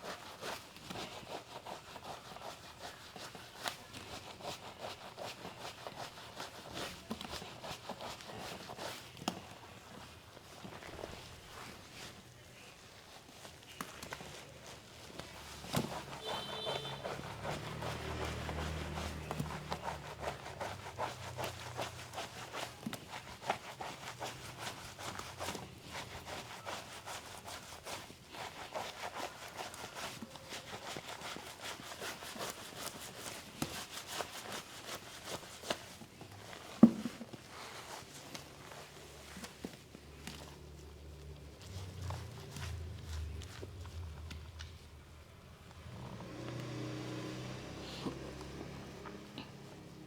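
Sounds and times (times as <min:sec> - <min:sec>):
hands rubbing skin: 0:00.0 - 0:45.0.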